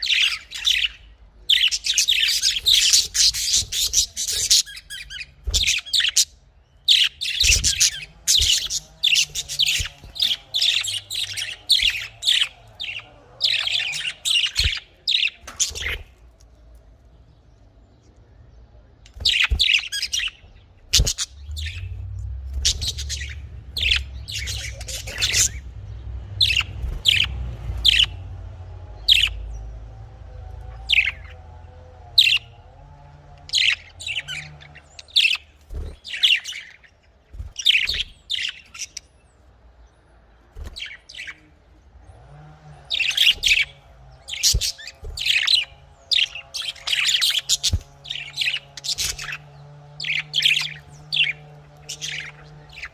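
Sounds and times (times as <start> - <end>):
budgerigars chirping: 0.0 - 16.2, 19.1 - 28.3, 29.0 - 29.6, 30.6 - 31.4, 32.2 - 32.6, 33.4 - 36.9, 37.5 - 39.2, 40.7 - 41.4, 42.8 - 52.9.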